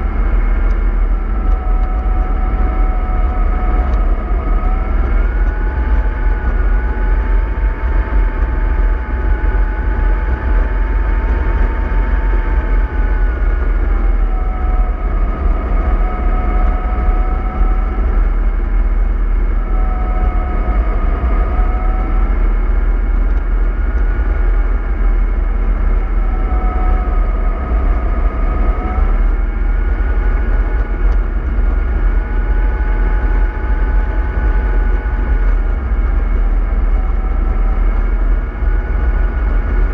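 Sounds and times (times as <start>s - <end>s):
bus engine rumble with whine: 0.0s - 39.9s.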